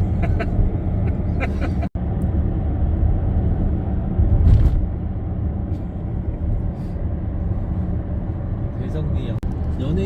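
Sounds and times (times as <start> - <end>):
moving car rumble: 0.0 - 10.0.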